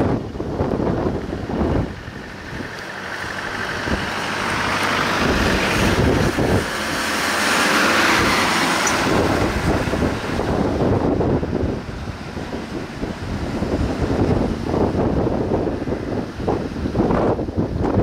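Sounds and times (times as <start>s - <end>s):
diesel vehicles driving past: 0.0s - 18.0s.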